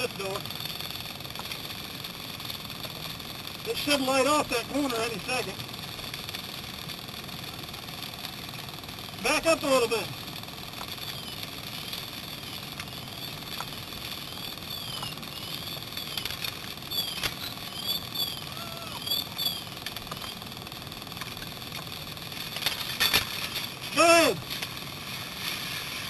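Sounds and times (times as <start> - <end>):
engine running: 0.0 - 26.0
sharp pops and clicks: 0.4 - 3.7, 5.6 - 9.2, 10.2 - 25.1.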